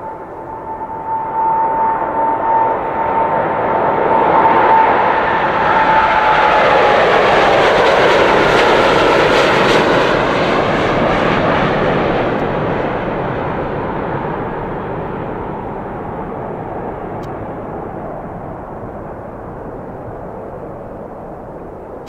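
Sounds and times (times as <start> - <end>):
jet engines roaring at takeoff: 0.0 - 22.0.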